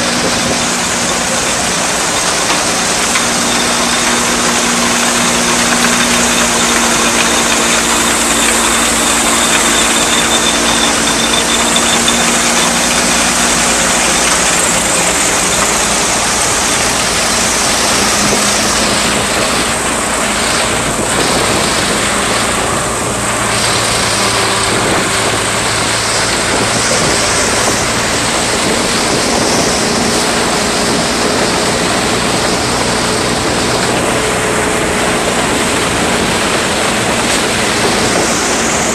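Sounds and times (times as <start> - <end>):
threshing machine running: 0.0 - 38.9
tractor engine under load: 0.0 - 38.9.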